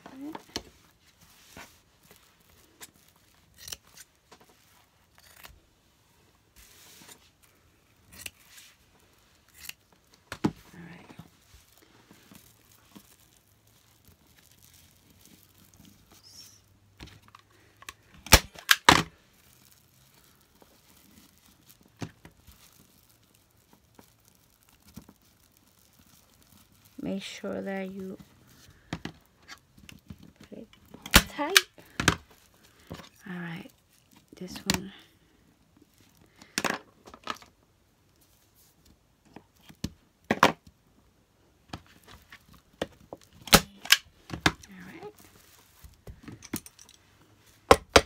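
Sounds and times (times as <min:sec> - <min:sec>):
fabric rustling: 0:00.0 - 0:18.2, 0:19.1 - 0:36.4, 0:44.0 - 0:47.7.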